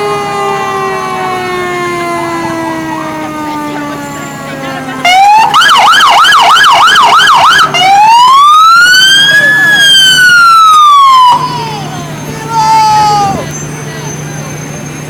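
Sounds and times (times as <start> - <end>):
fire truck siren winding down: 0.0 - 15.0
loud fire truck siren yelping: 0.0 - 15.0.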